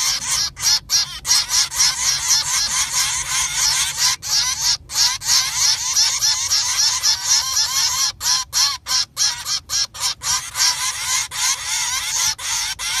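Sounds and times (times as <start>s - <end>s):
young animals raspy begging cries: 0.0s - 13.0s.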